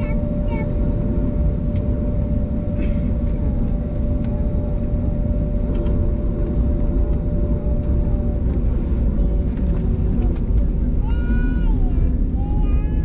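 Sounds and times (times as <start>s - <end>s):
jet engines rumbling: 0.0s - 13.0s
steady cabin hum: 0.0s - 13.0s.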